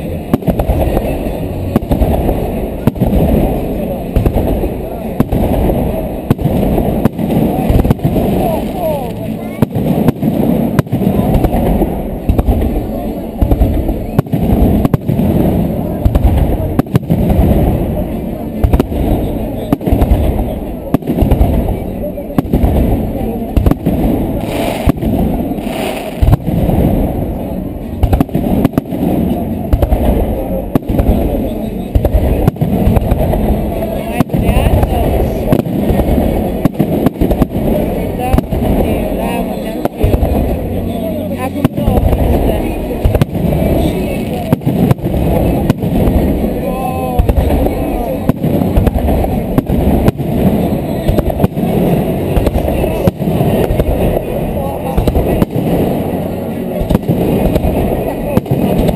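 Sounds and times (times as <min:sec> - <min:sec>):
fireworks bursting: 0:00.0 - 0:58.9
muffled fireworks crackle: 0:00.0 - 0:58.9
murmur of large crowd: 0:00.0 - 0:58.9.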